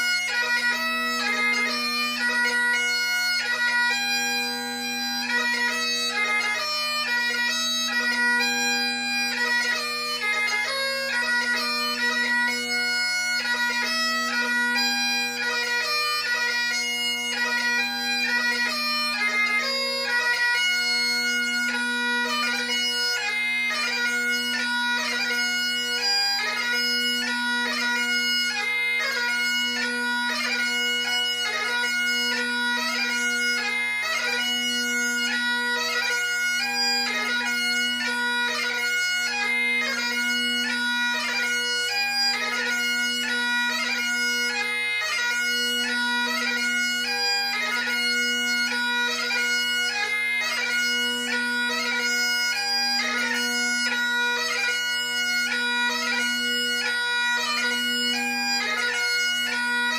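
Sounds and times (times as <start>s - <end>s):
bagpipe playing: 0.0s - 59.9s.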